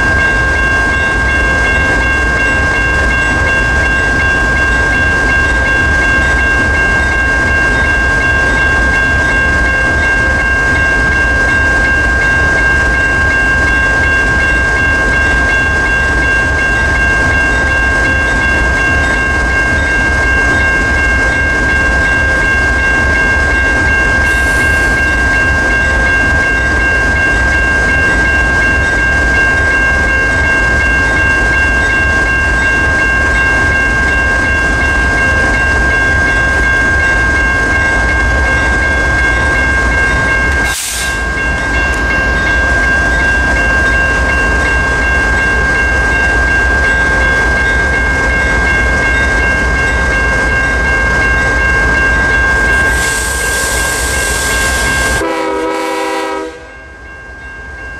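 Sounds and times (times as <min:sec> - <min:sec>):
crossing bell ringing: 0:00.0 - 0:57.9.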